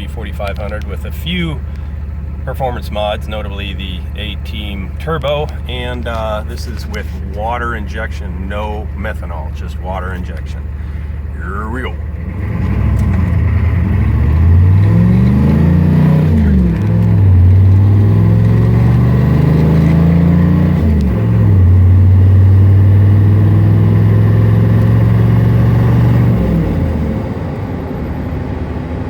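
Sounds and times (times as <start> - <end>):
diesel truck accelerating: 0.0 - 29.0.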